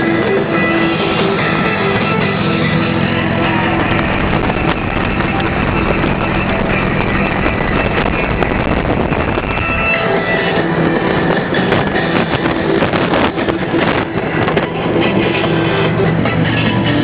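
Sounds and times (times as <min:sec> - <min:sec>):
motorcycle engines droning: 0:00.0 - 0:17.0
wind buffeting microphone: 0:00.0 - 0:17.0.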